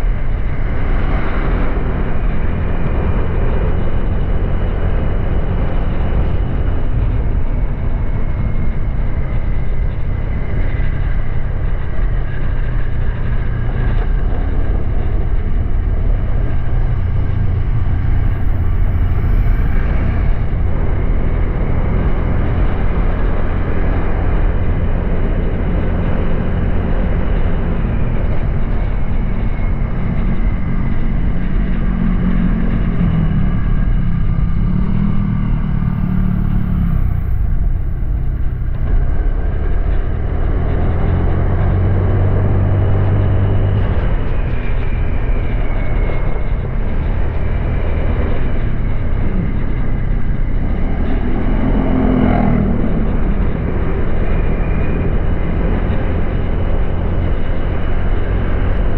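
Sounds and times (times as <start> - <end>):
wind rush on microphone: 0.0 - 58.9.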